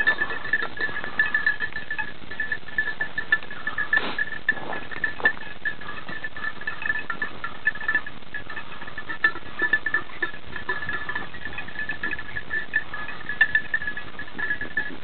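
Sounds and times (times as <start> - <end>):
small bells jingling: 0.0 - 15.0.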